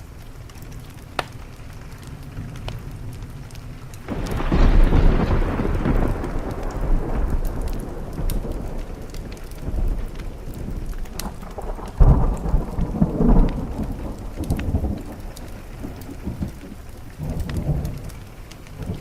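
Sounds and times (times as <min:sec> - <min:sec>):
steady rain: 0:00.0 - 0:19.0
wood fire crackling and popping: 0:00.0 - 0:19.0
thunderclap rumbling: 0:01.5 - 0:19.0.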